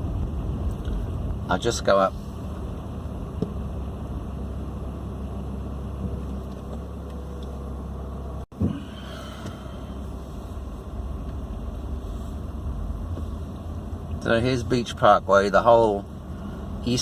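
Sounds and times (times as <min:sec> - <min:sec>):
car cabin engine and tyre noise: 0:00.0 - 0:17.0.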